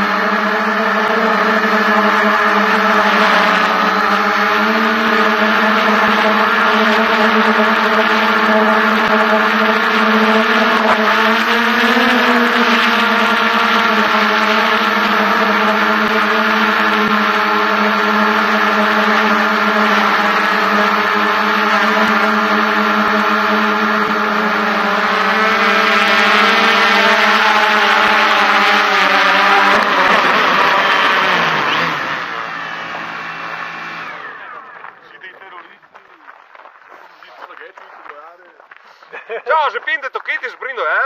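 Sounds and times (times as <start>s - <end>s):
drone motors buzzing: 0.0s - 37.8s.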